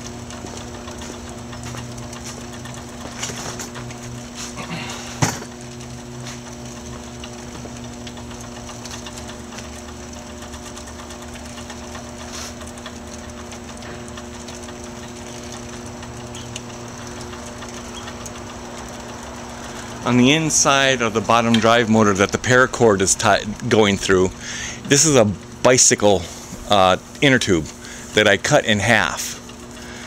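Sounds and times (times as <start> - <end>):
treadmill motor humming: 0.0 - 30.0.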